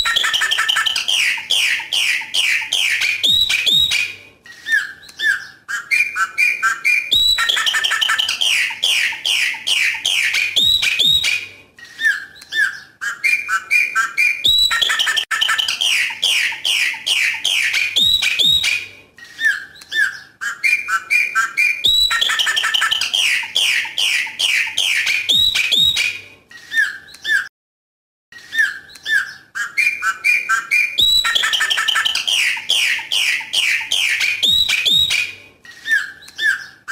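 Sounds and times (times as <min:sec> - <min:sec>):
blackbird singing: 0:00.0 - 0:27.5, 0:28.5 - 0:36.9.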